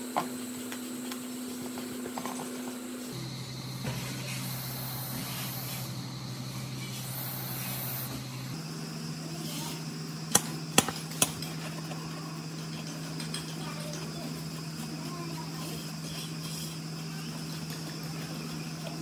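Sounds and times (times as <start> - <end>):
steady low hum: 1.0 - 17.3.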